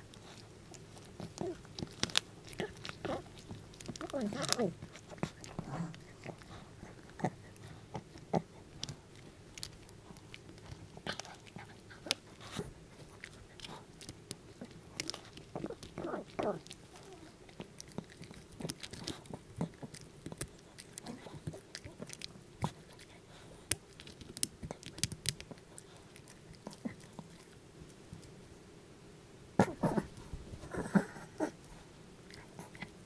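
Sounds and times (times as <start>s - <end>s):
dog crunching bone: 0.0s - 28.3s.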